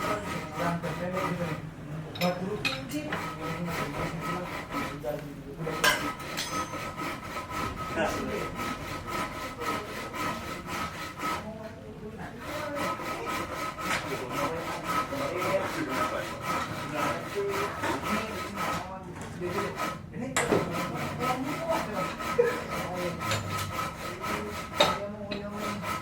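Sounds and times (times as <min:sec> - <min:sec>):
rhythmic scraping strokes: 0:00.0 - 0:26.0.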